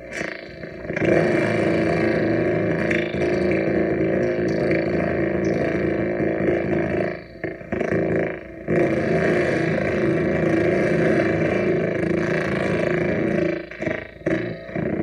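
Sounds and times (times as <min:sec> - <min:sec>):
noise synth drone: 0:00.0 - 0:15.0.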